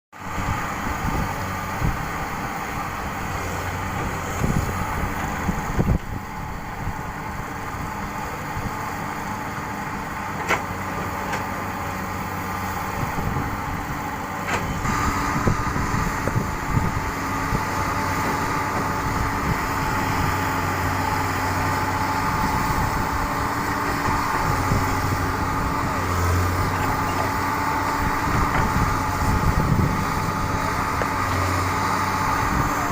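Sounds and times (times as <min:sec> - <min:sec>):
engine whine: 0:00.1 - 0:32.9
excavator engine hum: 0:00.2 - 0:32.9.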